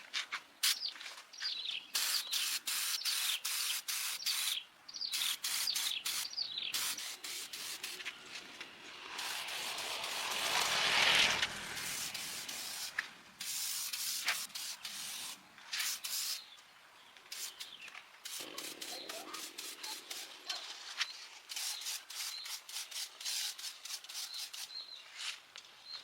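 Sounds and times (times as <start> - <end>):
hissing spray bursts: 0.6 - 0.9, 1.9 - 8.2, 9.0 - 16.5, 17.3 - 24.8.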